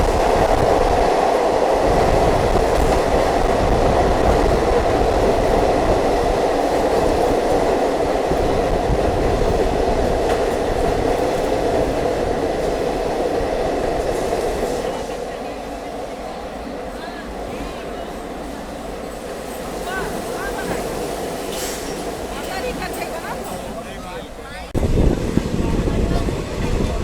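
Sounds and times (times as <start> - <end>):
clickety-clack of rail joints: 0.0 - 27.0
train wheels rumbling on rail: 0.0 - 27.0.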